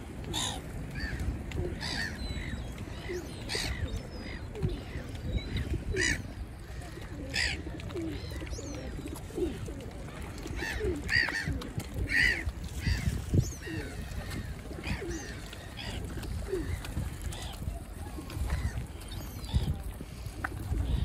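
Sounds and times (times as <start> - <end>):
pigeons cooing: 0.2 - 21.0.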